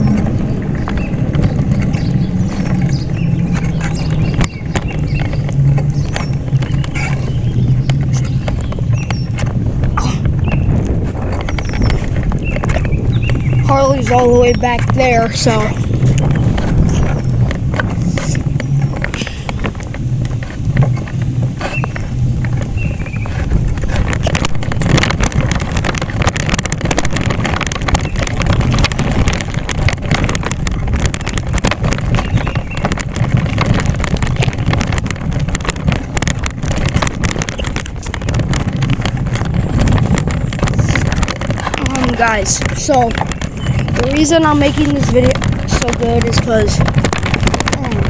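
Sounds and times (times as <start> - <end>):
bicycle riding rumble and rattle: 0.0 - 48.0
small clicks and knocks: 0.0 - 48.0.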